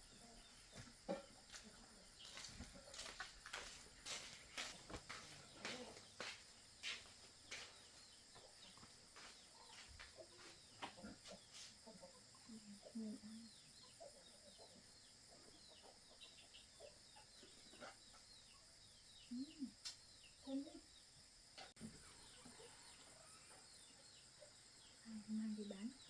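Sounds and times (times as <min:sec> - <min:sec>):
faint chickens clucking: 0:00.0 - 0:26.0
small birds chirping: 0:00.0 - 0:26.0.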